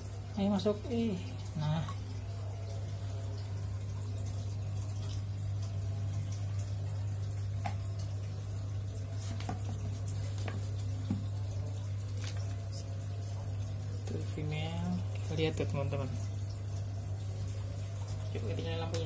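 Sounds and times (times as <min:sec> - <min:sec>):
steady low hum: 0:00.0 - 0:19.0
water dripping: 0:00.0 - 0:19.0.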